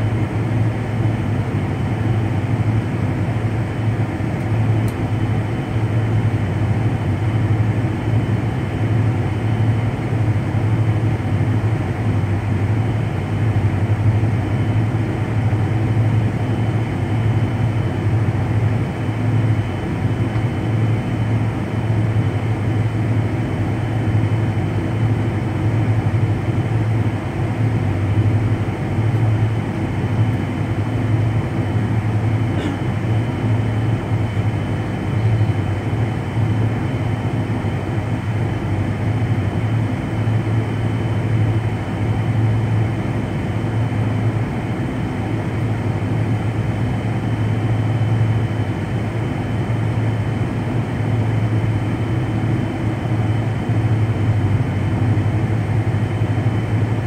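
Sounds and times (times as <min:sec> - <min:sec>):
jet engine drone: 0:00.0 - 0:57.0.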